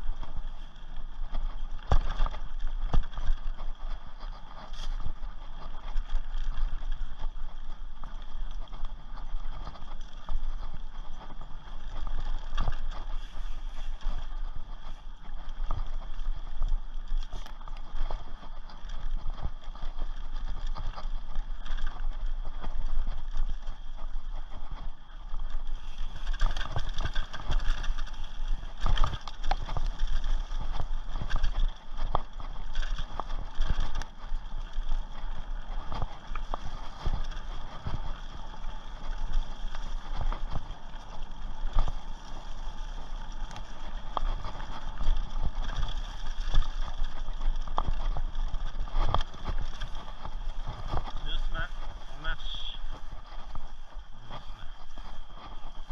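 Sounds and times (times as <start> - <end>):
bike rattling over rough trail: 0.0 - 55.9.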